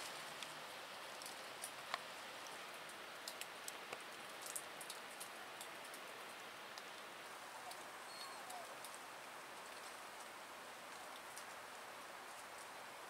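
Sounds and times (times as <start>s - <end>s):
steady hiss: 0.0s - 13.0s
water dripping onto leaves and stone: 0.0s - 13.0s.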